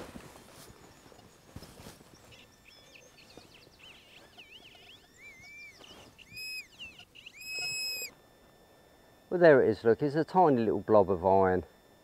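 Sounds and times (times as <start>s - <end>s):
metal detector wavering beep: 0.6s - 12.0s.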